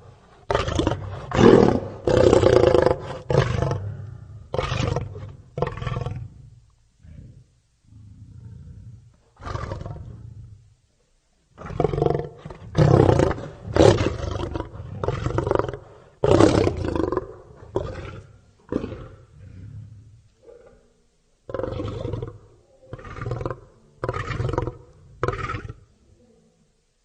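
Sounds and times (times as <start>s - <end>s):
lion roaring: 0.0s - 10.6s, 11.6s - 25.9s.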